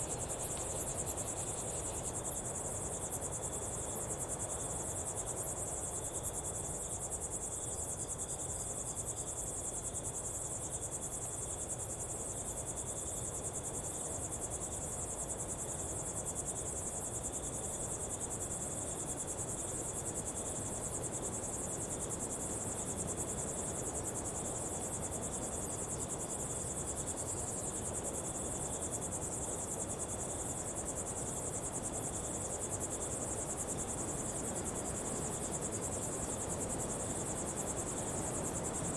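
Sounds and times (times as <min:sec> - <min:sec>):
high-pitched insect chorus: 0:00.0 - 0:38.9
low insect tone: 0:00.0 - 0:38.9.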